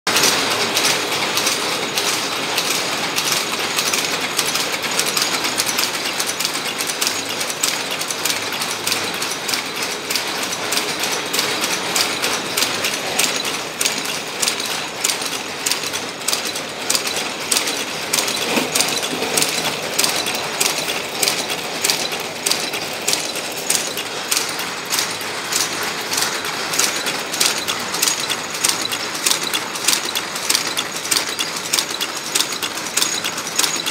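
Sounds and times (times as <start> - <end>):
pin making machine clattering: 0.1 - 33.9.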